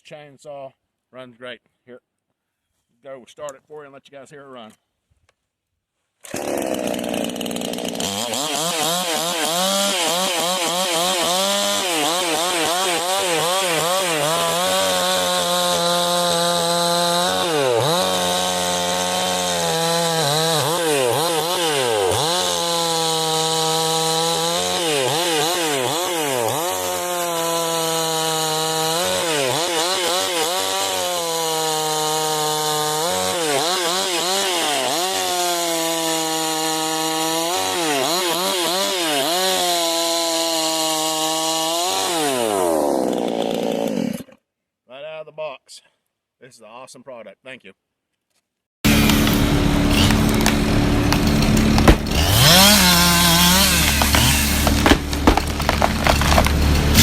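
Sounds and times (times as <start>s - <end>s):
gas chainsaw revving: 6.2s - 44.4s, 48.9s - 57.0s.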